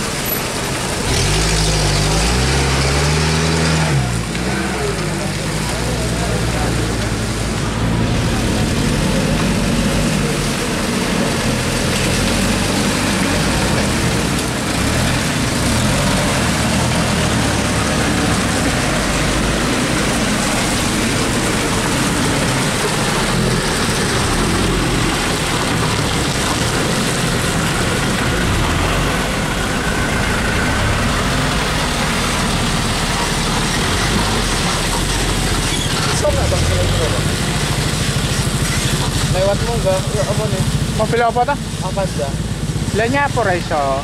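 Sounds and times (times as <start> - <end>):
diesel truck engines labouring: 0.0 - 44.0.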